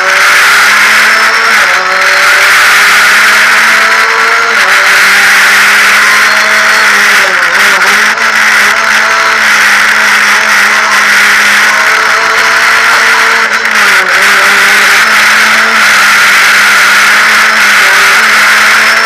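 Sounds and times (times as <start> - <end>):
race car engine running hard: 0.0 - 19.0
wind and road noise: 0.0 - 19.0.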